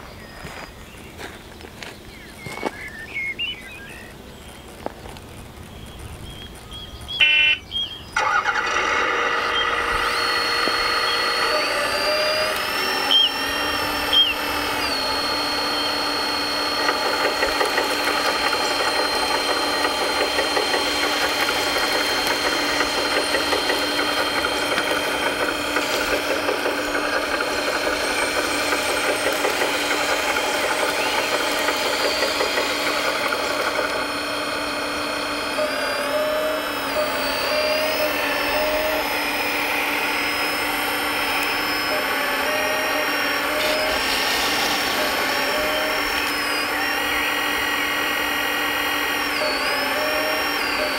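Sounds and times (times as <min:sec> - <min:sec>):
electric motors whining: 0:00.0 - 0:50.9
simulated diesel engine running: 0:00.0 - 0:50.9.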